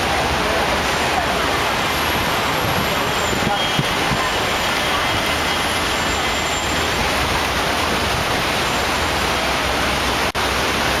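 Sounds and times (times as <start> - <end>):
traffic roar: 0.0 - 11.0.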